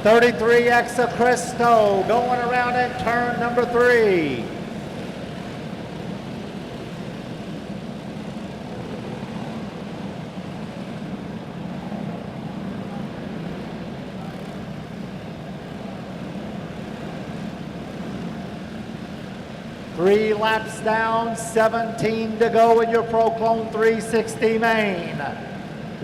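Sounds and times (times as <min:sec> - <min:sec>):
kart engines droning: 0:00.0 - 0:26.0.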